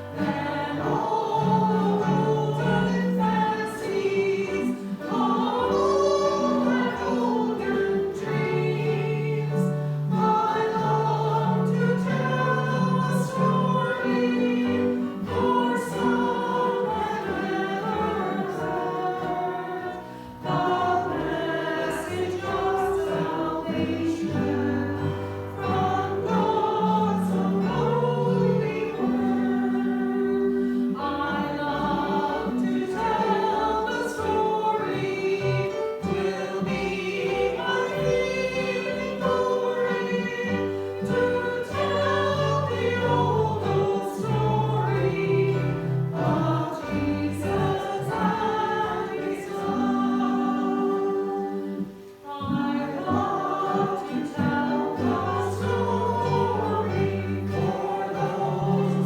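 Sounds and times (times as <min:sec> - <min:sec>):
congregation singing a hymn: 0:00.0 - 0:59.0
held accompaniment: 0:00.0 - 0:59.0.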